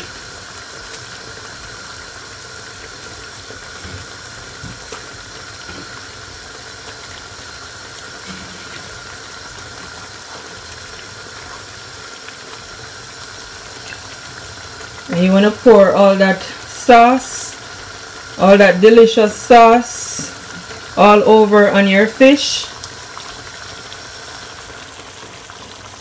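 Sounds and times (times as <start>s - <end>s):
sauce bubbling in a frying pan: 0.0s - 26.0s.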